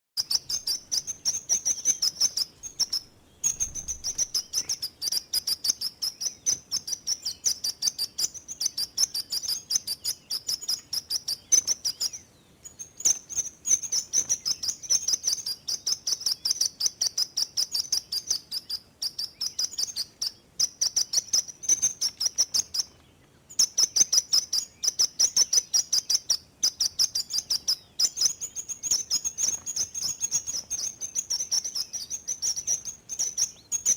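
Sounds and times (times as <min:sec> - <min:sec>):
sparrow trilling: 0:00.2 - 0:33.9.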